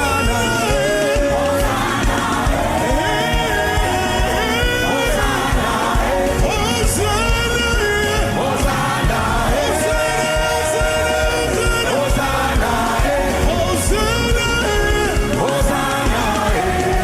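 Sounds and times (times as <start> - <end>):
choir backing vocals: 0.0 - 17.0
steady drum beat: 0.0 - 17.0
voices singing gospel song: 0.0 - 17.0.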